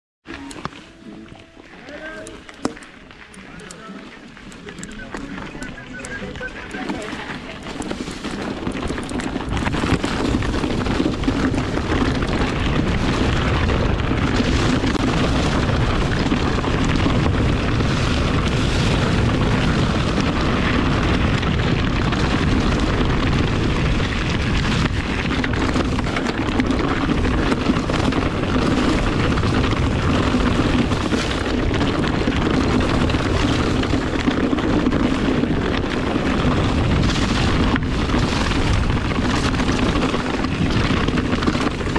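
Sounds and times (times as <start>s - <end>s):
tyres roaring on dirt trail: 0.3s - 41.9s
bike rattling and clattering: 2.0s - 41.9s.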